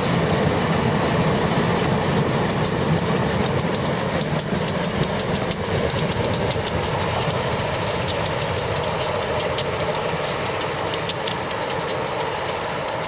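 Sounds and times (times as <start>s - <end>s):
train wheels clicking over rail joints: 1.6s - 13.0s.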